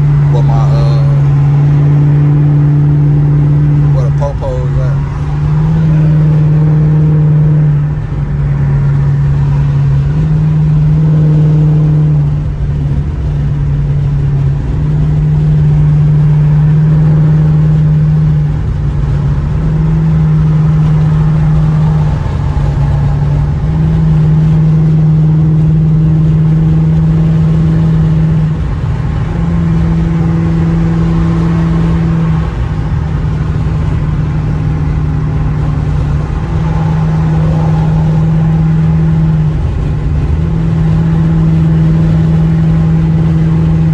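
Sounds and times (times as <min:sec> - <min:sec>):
car exhaust droning: 0:00.0 - 0:43.9.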